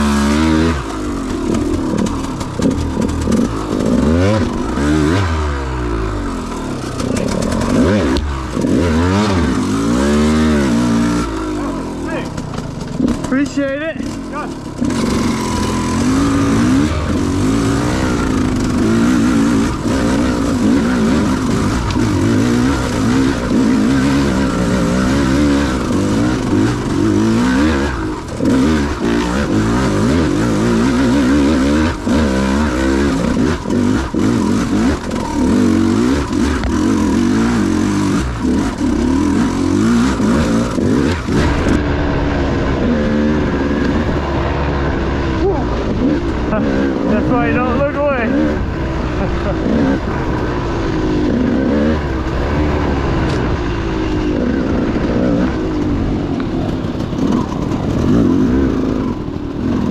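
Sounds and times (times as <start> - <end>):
two-stroke dirt bike engine revving: 0.0 - 59.9.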